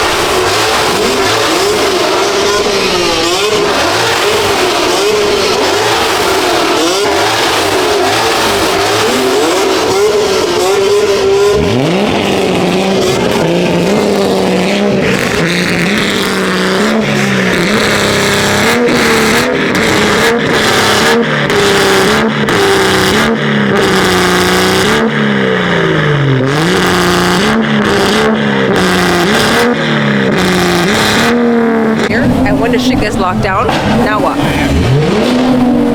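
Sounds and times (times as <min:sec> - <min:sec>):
car engines revving: 0:00.0 - 0:35.9.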